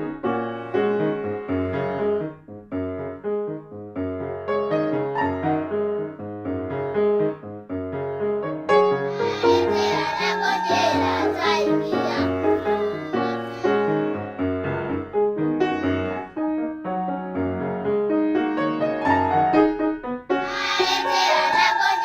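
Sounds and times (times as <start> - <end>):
lively solo piano: 0.0 - 21.7.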